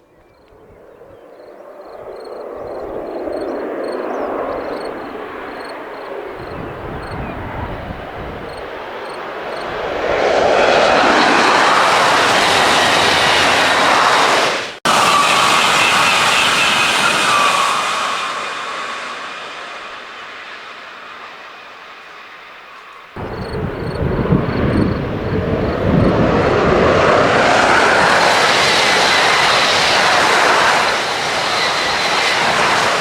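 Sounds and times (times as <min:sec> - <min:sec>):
high-speed train rushing past: 0:01.8 - 0:33.0.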